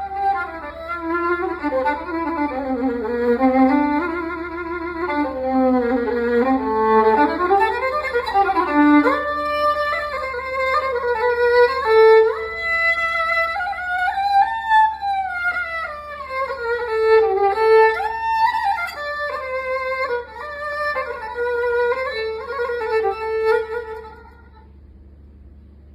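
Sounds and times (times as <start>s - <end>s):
bowed string solo melody: 0.0s - 24.7s.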